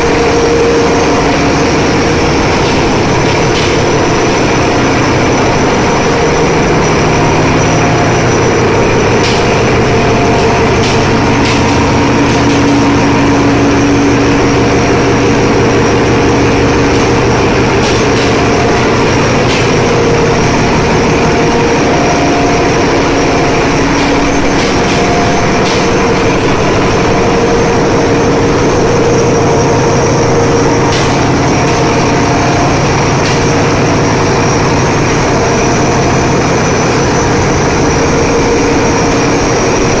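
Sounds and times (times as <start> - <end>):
engine room machinery drone: 0.0 - 40.0.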